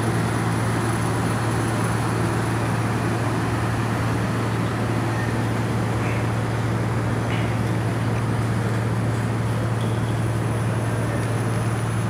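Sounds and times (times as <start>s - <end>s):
engine idling drone: 0.0s - 12.0s.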